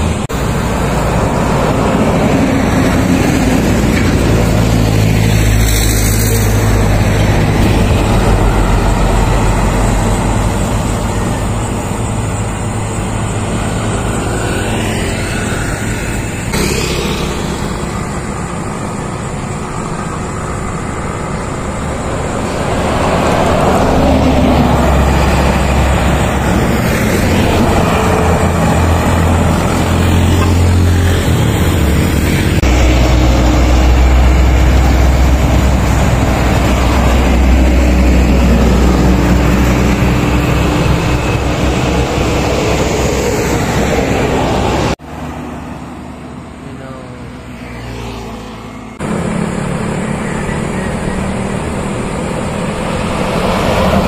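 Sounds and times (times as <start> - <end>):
highway traffic passing: 0.0 - 54.0
low engine drone: 0.0 - 54.0.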